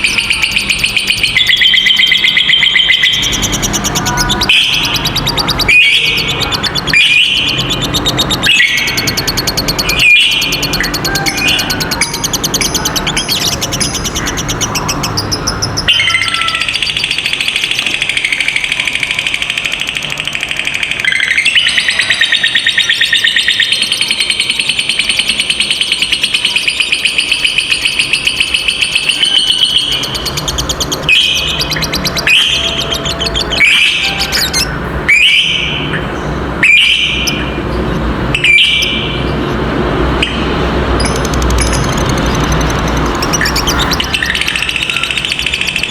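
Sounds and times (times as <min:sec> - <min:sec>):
lovebird trilling: 0:00.0 - 0:35.8, 0:36.6 - 0:45.9.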